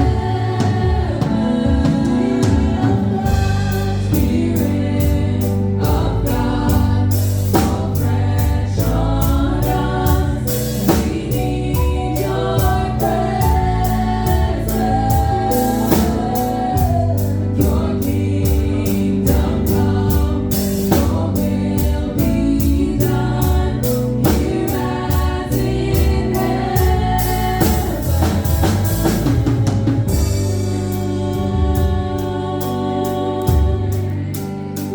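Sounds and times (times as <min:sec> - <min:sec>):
bass: 0:00.0 - 0:34.9
drum kit beat: 0:00.0 - 0:34.9
voices singing together: 0:00.0 - 0:34.9.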